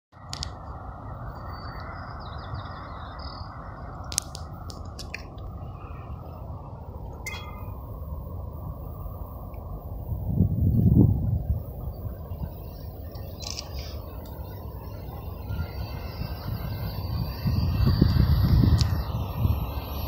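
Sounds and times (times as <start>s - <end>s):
steady low rumble: 0.2s - 20.0s.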